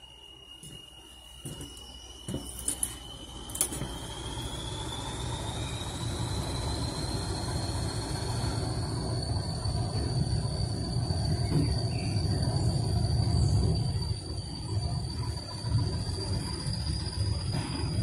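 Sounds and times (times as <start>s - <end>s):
diesel locomotive engine rumble: 0.0s - 18.0s
high whine rising in pitch: 0.0s - 18.0s.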